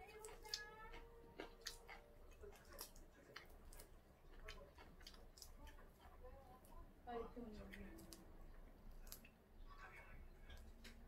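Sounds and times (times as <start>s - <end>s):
chewing: 0.0s - 6.9s, 7.6s - 11.0s.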